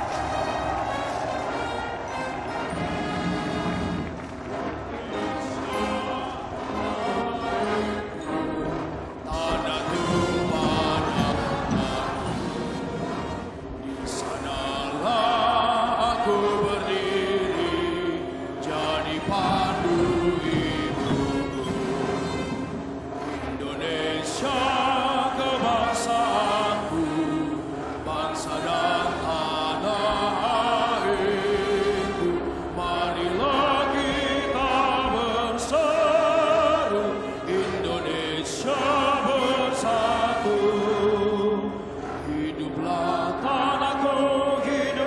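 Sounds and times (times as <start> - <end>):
marching band playing: 0.0 - 45.0
people singing with vibrato: 0.0 - 45.0.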